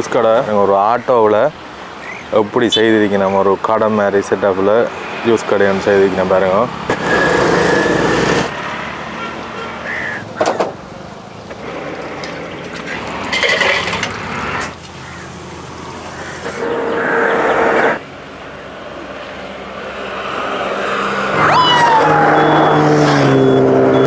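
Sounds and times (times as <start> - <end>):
vehicles passing close by: 0.0 - 24.0.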